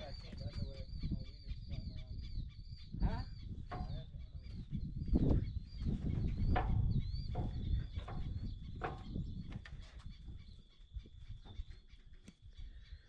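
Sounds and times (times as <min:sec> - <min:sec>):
wild birds calling: 0:00.0 - 0:13.0
wind rumbling on microphone: 0:00.0 - 0:13.0.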